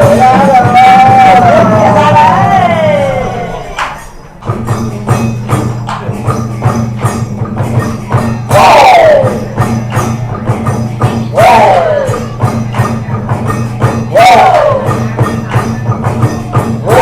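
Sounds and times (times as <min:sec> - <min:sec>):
drum beating steadily: 0:00.0 - 0:17.0.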